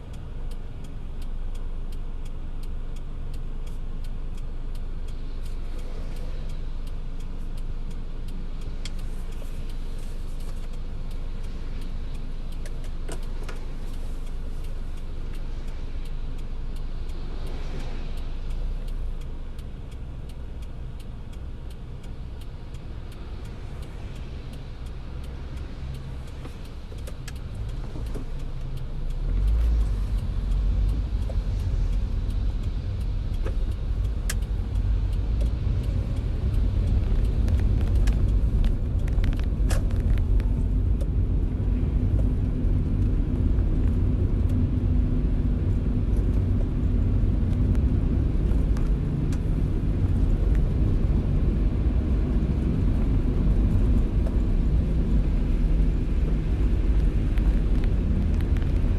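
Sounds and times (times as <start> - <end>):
raindrop ticks: 0.0 - 58.9
road and engine rumble: 0.0 - 58.9.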